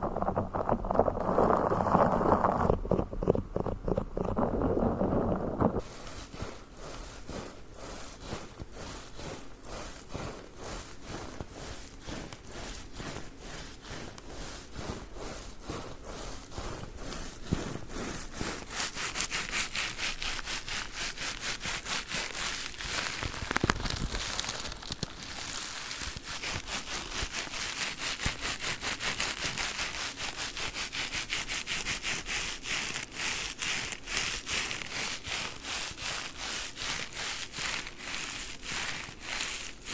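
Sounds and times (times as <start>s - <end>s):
sponge being scratched and rubbed: 0.0s - 39.9s.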